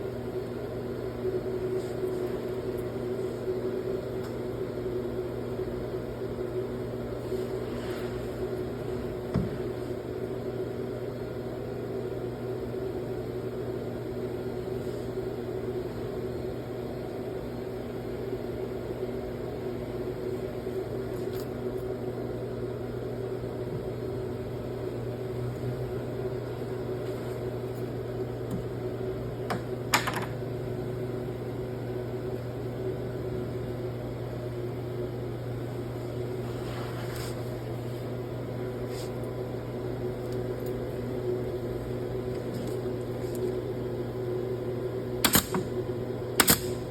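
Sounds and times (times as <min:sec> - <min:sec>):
workshop machinery humming: 0:00.0 - 0:46.9.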